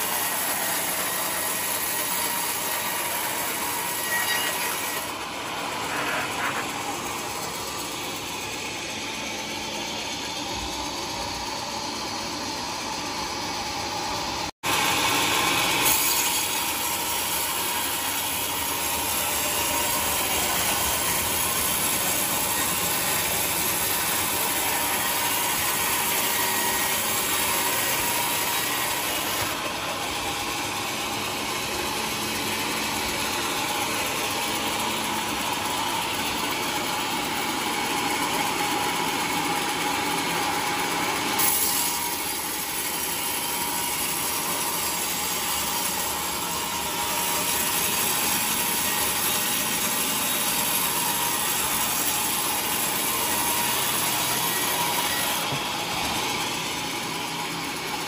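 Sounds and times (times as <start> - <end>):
band sawmill sawing log: 0.0 - 14.0, 14.7 - 58.0.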